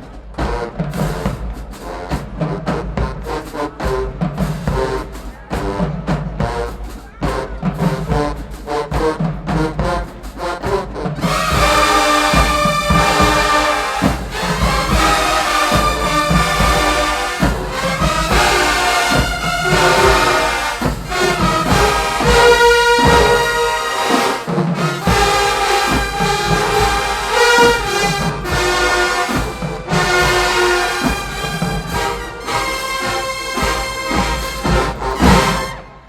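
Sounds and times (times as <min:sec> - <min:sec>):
drum hits: 0:00.0 - 0:36.0
marching band playing: 0:00.0 - 0:36.0.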